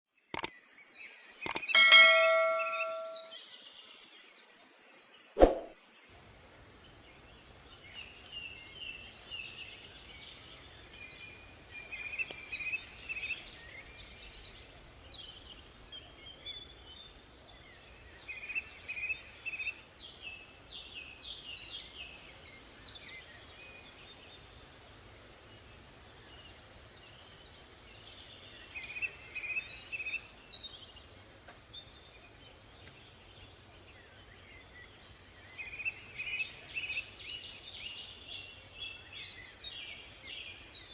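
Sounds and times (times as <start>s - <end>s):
faint steady hiss: 0.2s - 40.9s
songbirds chirping and trilling: 0.2s - 40.9s.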